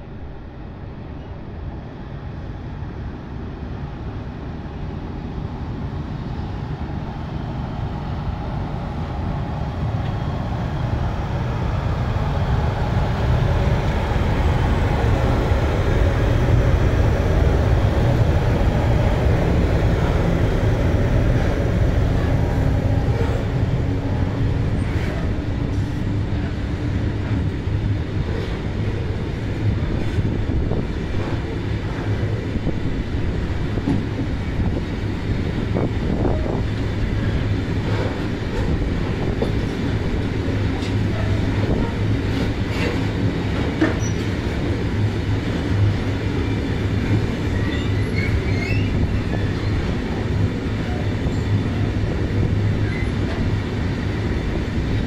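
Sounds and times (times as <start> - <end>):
electric locomotives rumbling: 0.0 - 55.0.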